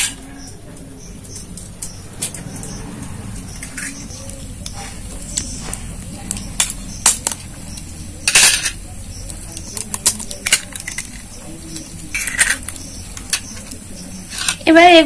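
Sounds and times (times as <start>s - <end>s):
egg cracking: 0.0s - 14.7s.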